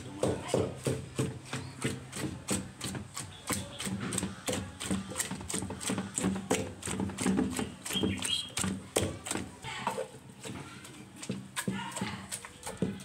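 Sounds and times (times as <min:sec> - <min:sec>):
pestle pounding in wooden mortar: 0:00.0 - 0:13.0.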